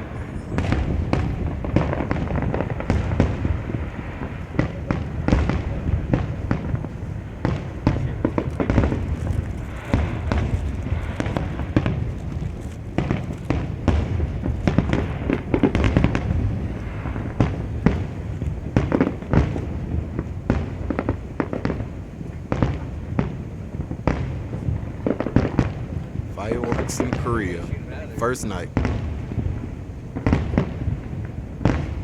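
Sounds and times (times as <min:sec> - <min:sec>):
firework shells bursting: 0:00.0 - 0:21.8, 0:24.0 - 0:32.0
steady low rumble: 0:00.0 - 0:25.0, 0:25.8 - 0:32.0.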